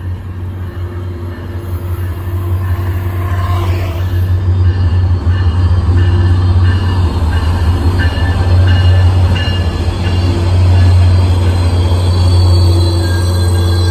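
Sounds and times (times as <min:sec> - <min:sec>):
diesel locomotive engine hum: 0:00.0 - 0:13.9
train rumbling: 0:00.0 - 0:13.9.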